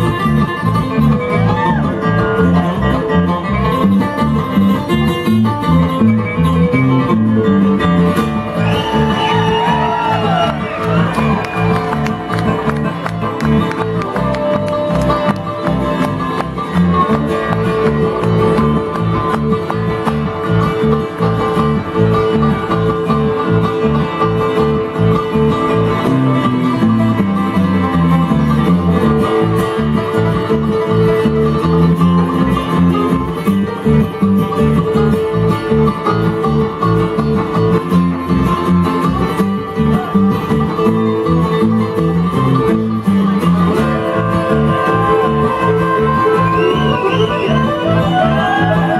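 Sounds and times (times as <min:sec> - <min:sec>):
banjo picking: 0:00.0 - 0:48.9
guitar picking: 0:00.0 - 0:48.9
plucked bass line: 0:00.0 - 0:48.9.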